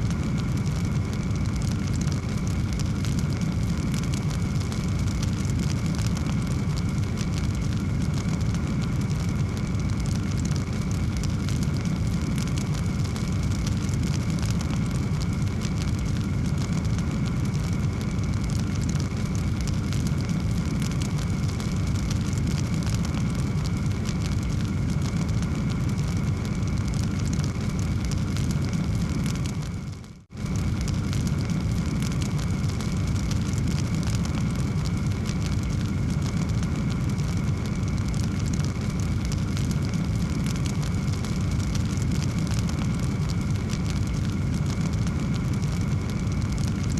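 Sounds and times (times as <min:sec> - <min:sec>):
low rumble of flame: 0:00.0 - 0:46.9
wood fire crackling: 0:00.0 - 0:46.9.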